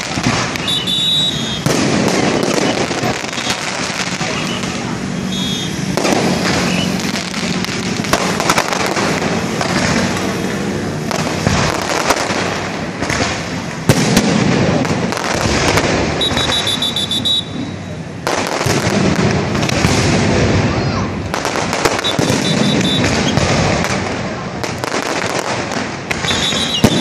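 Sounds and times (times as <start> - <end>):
fireworks crackling and banging: 0.0 - 27.0.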